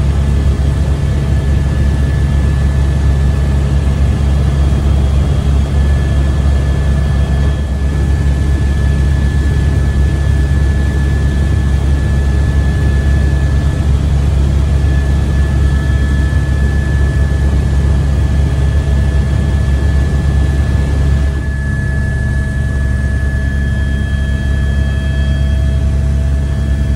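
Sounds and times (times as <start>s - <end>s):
helicopter rotor drone: 0.0s - 26.9s
turbine high whine: 0.0s - 26.9s.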